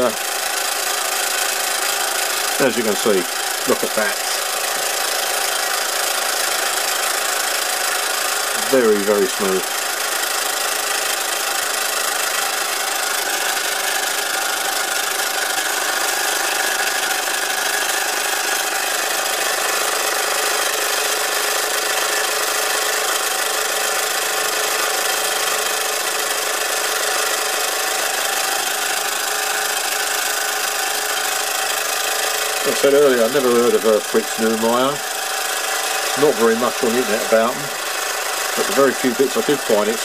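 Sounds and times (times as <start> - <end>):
toy steam engine hissing whir: 0.0 - 40.0.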